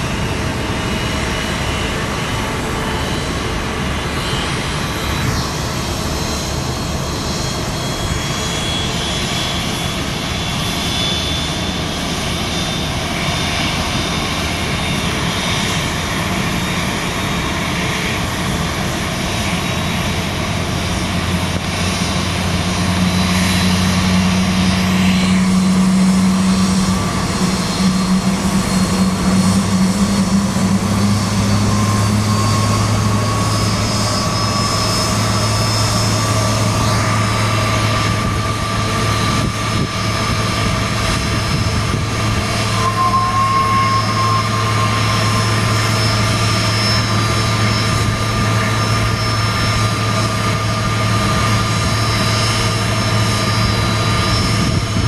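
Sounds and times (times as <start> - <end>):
jet engine whine and rumble: 0.0 - 55.0
low drone: 0.0 - 55.0.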